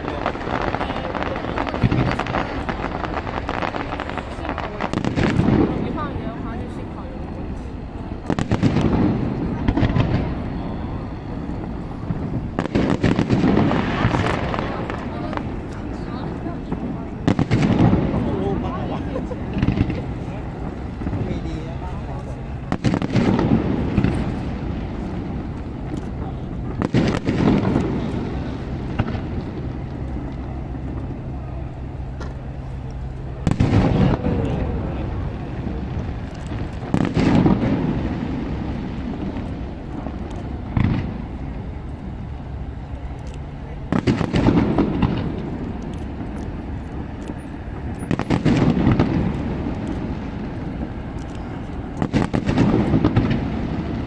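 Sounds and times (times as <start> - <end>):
fireworks bangs: 0.0 - 54.0
steady low rumble: 0.0 - 54.0.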